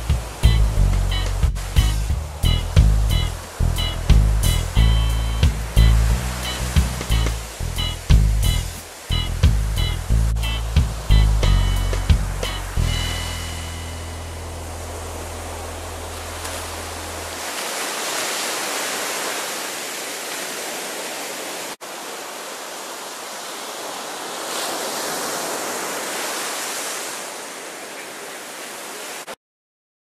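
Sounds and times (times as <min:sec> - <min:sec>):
surf breaking on beach: 0:00.0 - 0:29.4.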